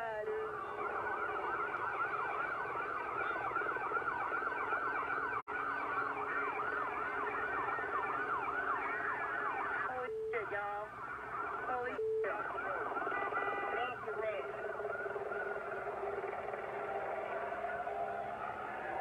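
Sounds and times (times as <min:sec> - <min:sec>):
police sirens yelping: 0:00.0 - 0:19.0
steady low siren tone: 0:00.1 - 0:19.0.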